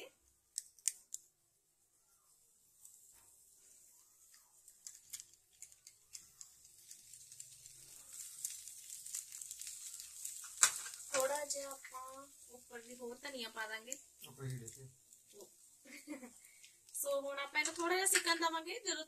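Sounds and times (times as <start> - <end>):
dosa sizzling on a griddle: 0.0 - 19.0.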